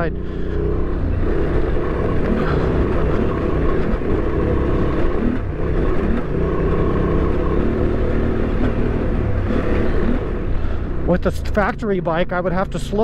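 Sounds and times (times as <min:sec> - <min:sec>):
motorcycle engine running: 0:00.0 - 0:13.0
tyre and chassis noise: 0:00.0 - 0:13.0.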